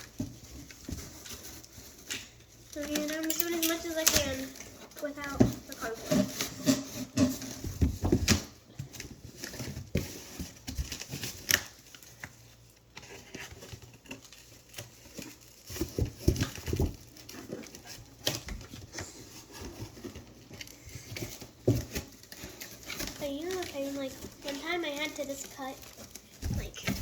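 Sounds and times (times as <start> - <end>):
paper rustling and crinkling: 0.0 - 27.0.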